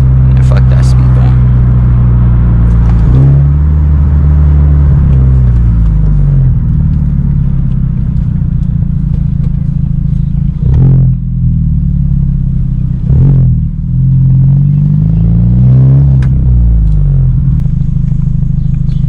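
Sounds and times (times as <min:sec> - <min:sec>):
car exhaust drone while driving: 0:00.0 - 0:19.0.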